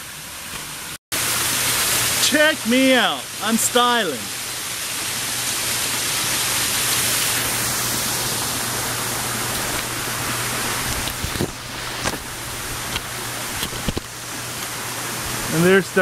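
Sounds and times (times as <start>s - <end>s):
waterfall splashing over rocks: 0.0s - 16.0s.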